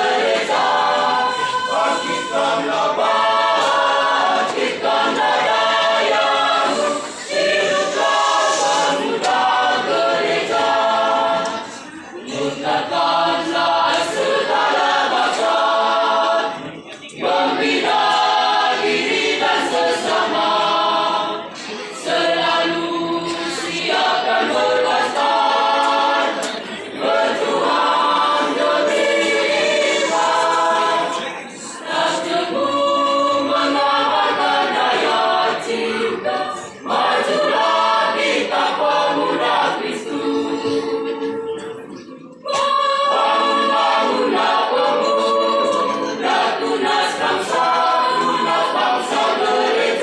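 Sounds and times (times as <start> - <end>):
youth choir singing a hymn: 0.0 - 50.0.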